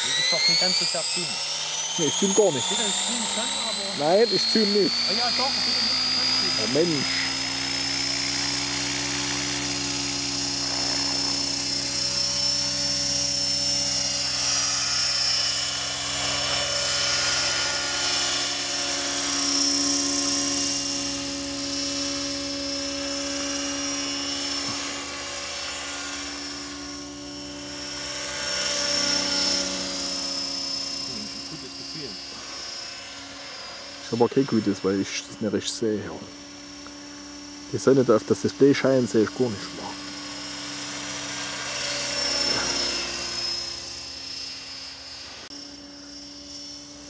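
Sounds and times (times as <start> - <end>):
high motor whine: 0.0 - 47.0
model helicopter rotor buzz: 0.0 - 47.0.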